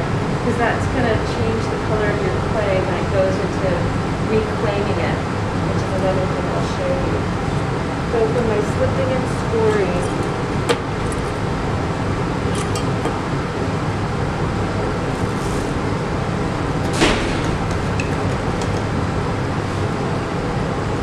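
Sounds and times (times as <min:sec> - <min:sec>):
room noise rumble and hiss: 0:00.0 - 0:21.0.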